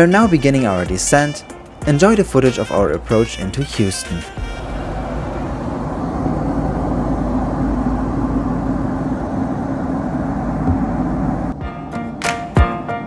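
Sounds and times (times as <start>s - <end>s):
airliner cabin engine rush: 0.0s - 13.0s
faint steady hum: 0.0s - 13.0s.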